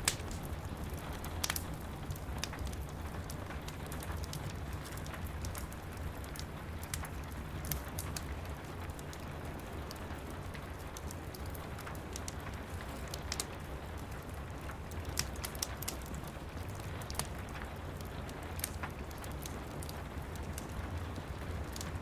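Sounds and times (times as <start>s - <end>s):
rain patter: 0.0s - 22.0s
wood fire crackling: 0.0s - 22.0s.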